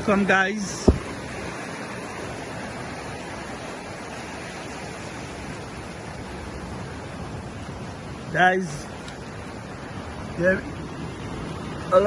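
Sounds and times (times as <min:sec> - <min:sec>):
sea surf on stony shore: 0:00.0 - 0:12.0.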